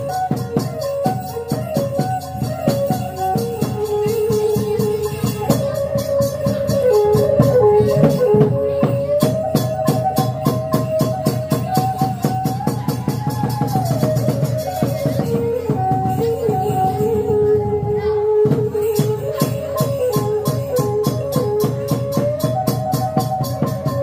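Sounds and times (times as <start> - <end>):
fast percussion beats: 0.0 - 24.0
folk melody line: 0.0 - 24.0.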